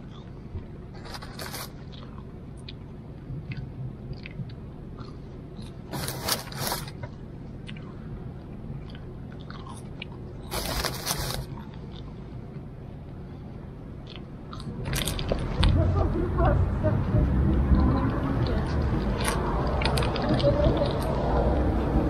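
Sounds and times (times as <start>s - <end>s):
person chewing fries: 0.0s - 13.2s, 13.9s - 15.8s, 18.5s - 21.4s.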